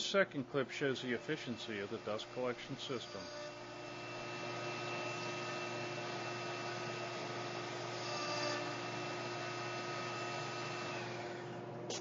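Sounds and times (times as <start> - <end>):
router whirring: 0.9 - 11.7.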